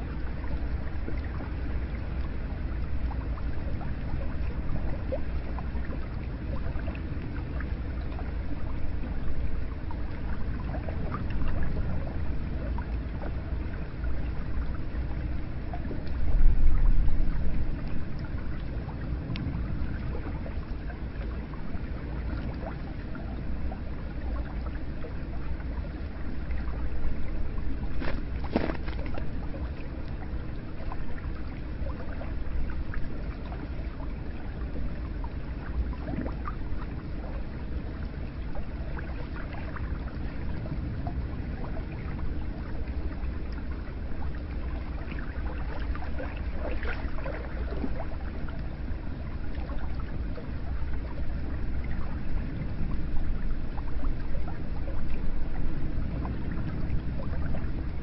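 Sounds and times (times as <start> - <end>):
water flowing and splashing: 0.0 - 58.0.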